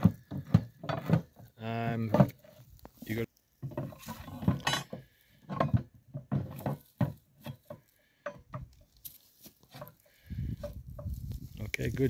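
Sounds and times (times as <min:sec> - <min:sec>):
wooden parts knocking and scraping: 0:00.0 - 0:11.5.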